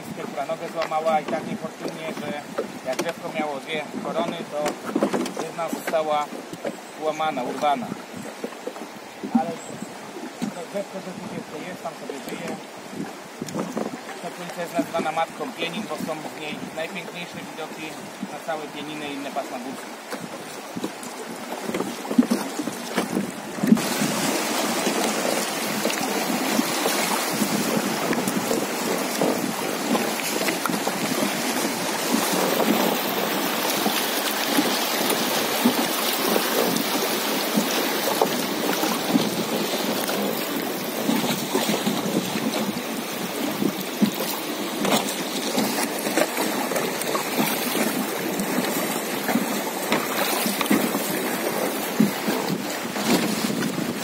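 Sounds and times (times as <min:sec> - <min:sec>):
water rushing over rapids: 0:00.0 - 0:54.0.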